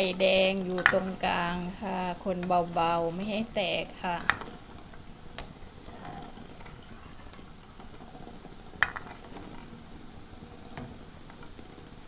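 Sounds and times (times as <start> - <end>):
boiling water bubbling: 0.0 - 12.0.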